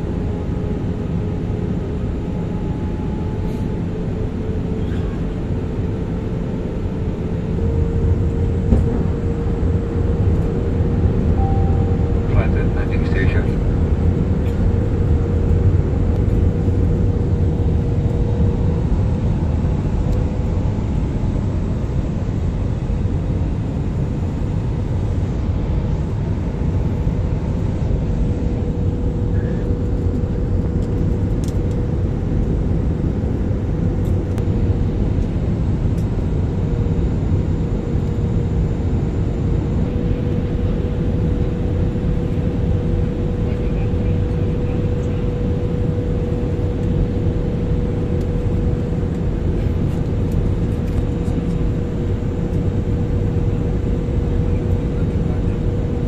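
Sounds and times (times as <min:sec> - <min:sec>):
rumble of engines and airflow: 0:00.0 - 0:56.0.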